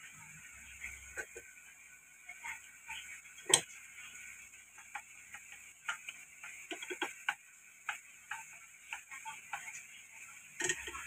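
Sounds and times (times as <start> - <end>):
sauce sizzling in frying pan: 0.0 - 11.0.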